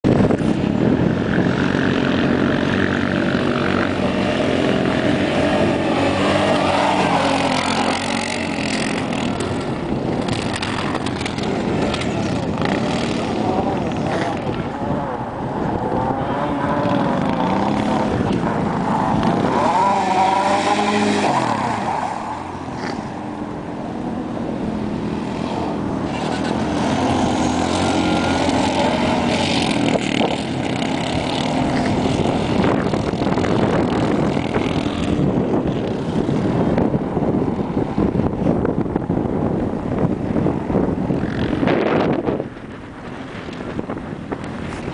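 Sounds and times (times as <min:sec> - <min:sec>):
quad bike engine revving: 0:00.1 - 0:23.6, 0:24.6 - 0:38.1, 0:40.0 - 0:42.6.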